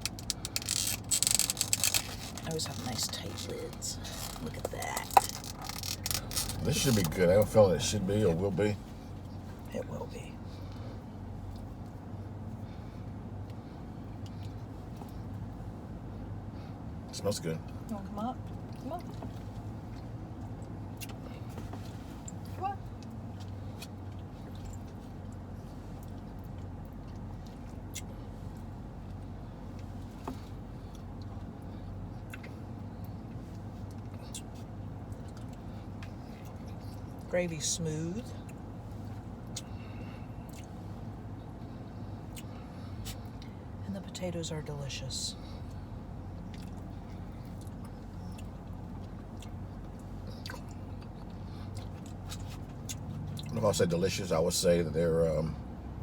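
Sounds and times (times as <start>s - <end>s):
vehicle humming: 0.0s - 56.0s.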